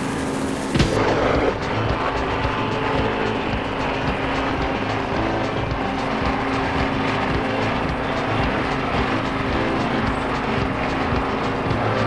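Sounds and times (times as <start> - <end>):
helicopter droning: 0.0 - 12.0.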